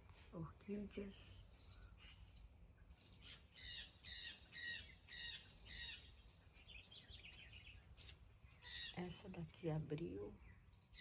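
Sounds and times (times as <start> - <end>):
faint bird chirps: 0.3 - 11.0.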